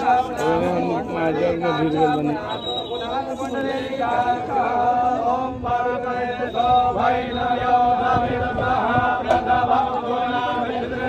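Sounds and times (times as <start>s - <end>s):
mantras chanted: 0.0s - 11.0s.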